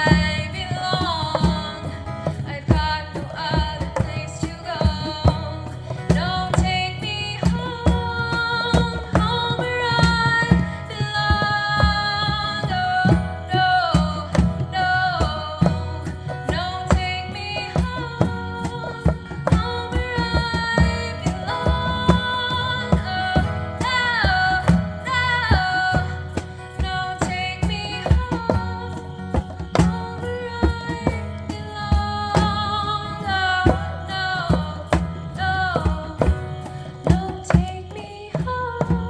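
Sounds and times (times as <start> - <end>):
hand drum rhythm: 0.0 - 39.0
person singing: 0.0 - 39.0.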